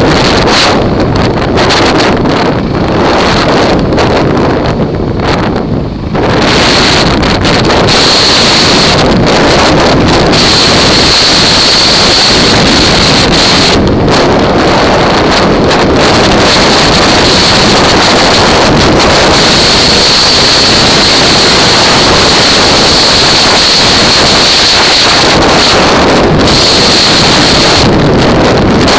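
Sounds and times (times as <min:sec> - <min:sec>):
steady high whine: 0:00.0 - 0:28.9
wind buffeting microphone: 0:00.0 - 0:28.9.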